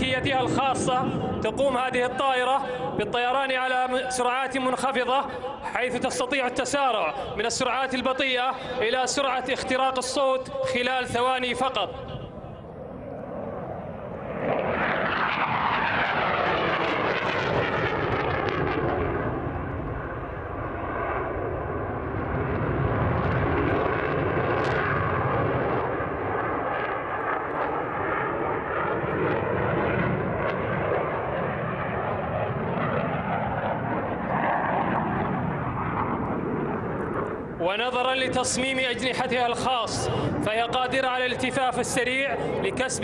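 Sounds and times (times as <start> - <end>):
fighter jet roaring past: 0.0 - 43.0.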